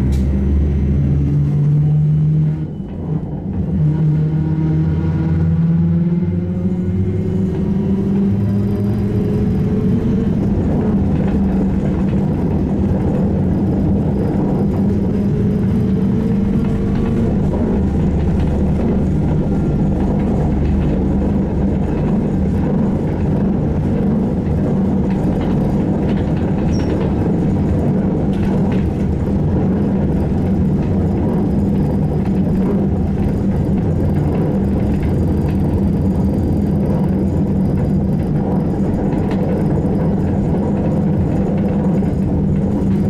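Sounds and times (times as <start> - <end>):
trolleybus low rumble: 0.0 - 43.0.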